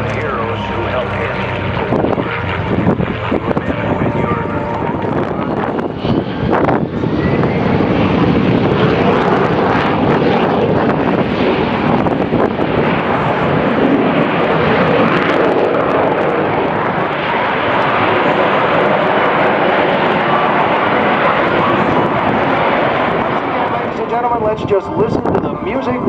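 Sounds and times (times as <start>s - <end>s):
propeller aircraft flying over: 0.0s - 26.0s.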